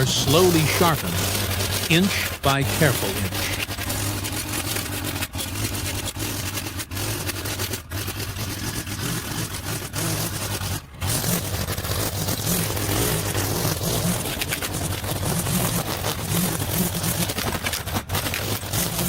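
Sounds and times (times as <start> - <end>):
string trimmer cutting grass: 0.0 - 19.0.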